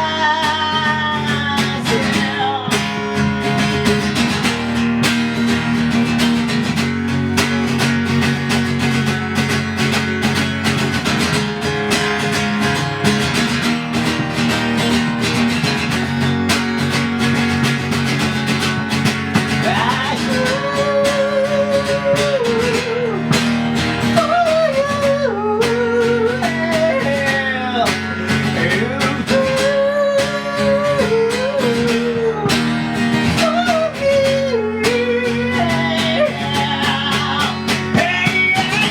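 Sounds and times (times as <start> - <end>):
band music with guitar: 0.0 - 38.9
high lead guitar melody: 0.0 - 38.9.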